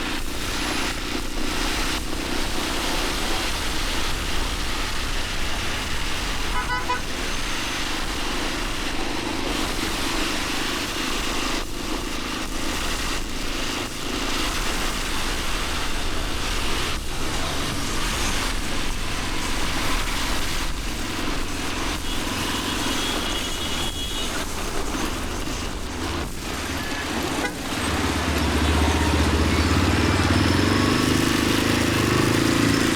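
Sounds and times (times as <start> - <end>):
motorcycle engine rumble: 0.0 - 32.9
rush of road noise: 0.0 - 32.9.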